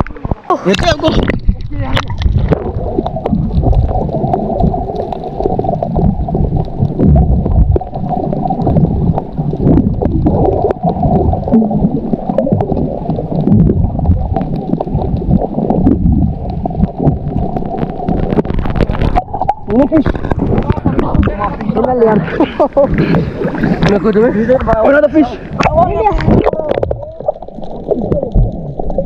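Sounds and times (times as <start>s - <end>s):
muffled underwater gurgling: 0.0s - 29.0s.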